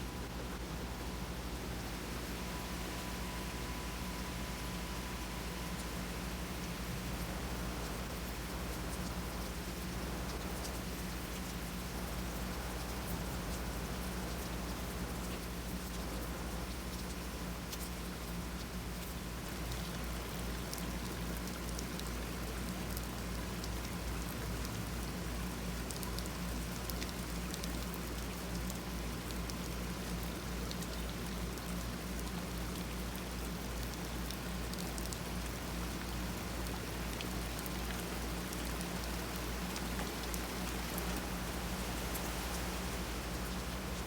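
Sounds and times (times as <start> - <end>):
low steady hum: 0.0 - 44.0
rain falling: 0.0 - 44.0.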